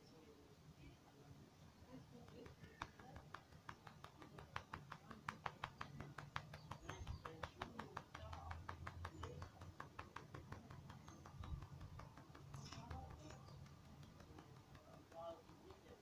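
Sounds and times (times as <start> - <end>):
hand patting a cat: 2.2 - 16.0.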